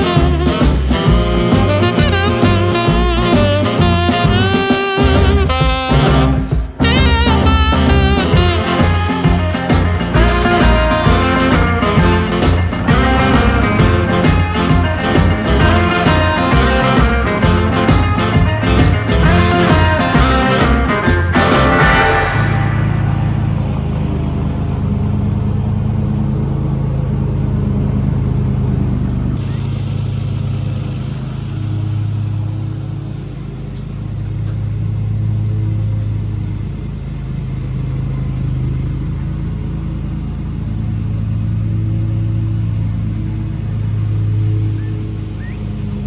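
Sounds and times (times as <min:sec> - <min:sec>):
engine running: 0:00.0 - 0:46.0.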